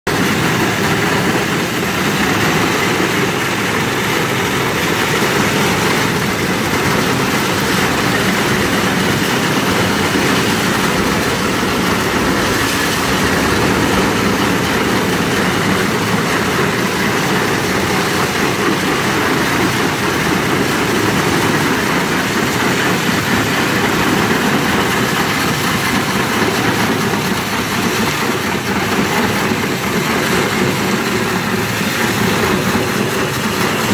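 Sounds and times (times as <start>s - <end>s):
high-pressure water jet blasting concrete: 0.1s - 33.9s.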